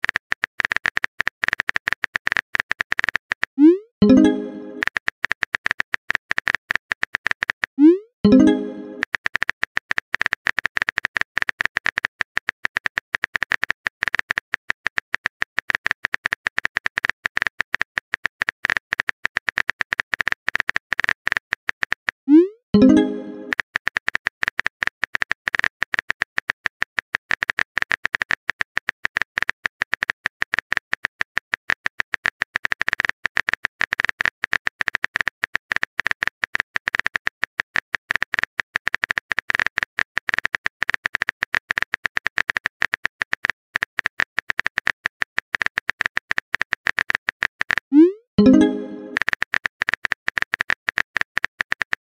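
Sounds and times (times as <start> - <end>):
keyboard typing clicks: 0.0 - 52.0.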